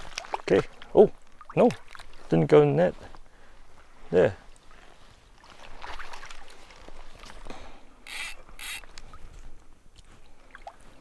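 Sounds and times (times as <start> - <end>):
fishing gear rustling and knocking: 0.0 - 11.0.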